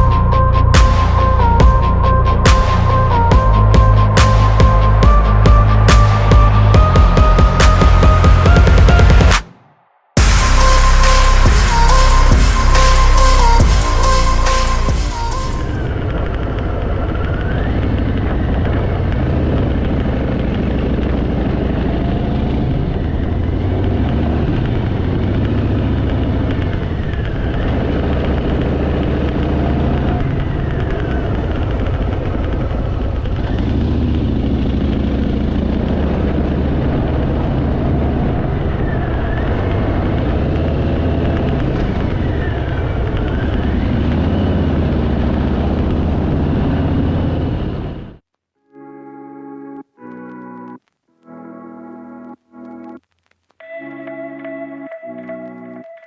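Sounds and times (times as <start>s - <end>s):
motorcycle engine revving: 0.0s - 9.5s, 10.2s - 48.2s.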